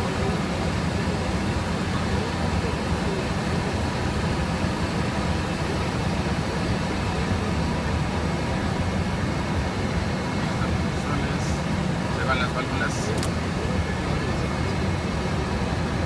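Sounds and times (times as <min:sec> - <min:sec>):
jet cockpit rumble: 0:00.0 - 0:16.0.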